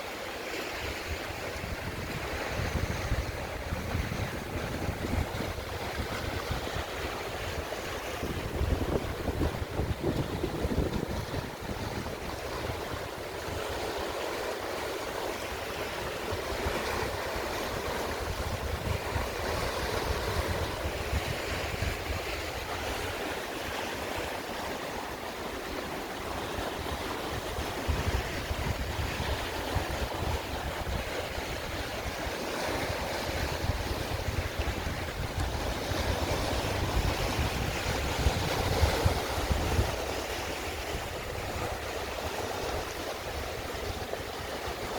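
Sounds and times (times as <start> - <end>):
sea surf washing on shore: 0.0 - 44.9
wind buffeting microphone: 0.8 - 44.9.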